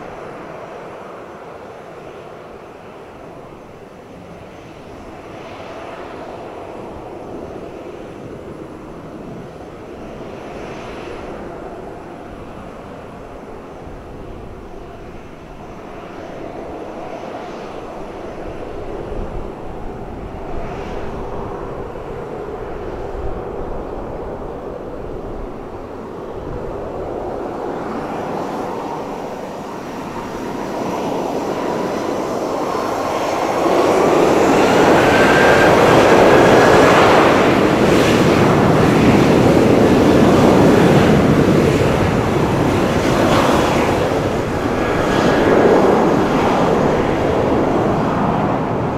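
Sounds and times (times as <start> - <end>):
jet engines spooling up: 0.0 - 48.9.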